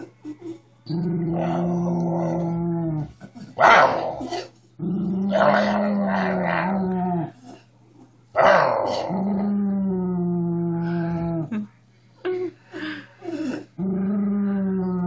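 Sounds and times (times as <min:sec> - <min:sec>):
dog growling: 0:00.0 - 0:07.6, 0:08.4 - 0:11.6, 0:13.2 - 0:15.0.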